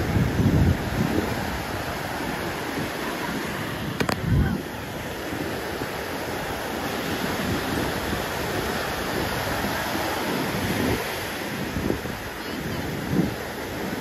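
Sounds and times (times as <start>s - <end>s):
surf breaking on sandy beach: 0.0s - 14.0s
wind gusts on microphone: 0.0s - 14.0s.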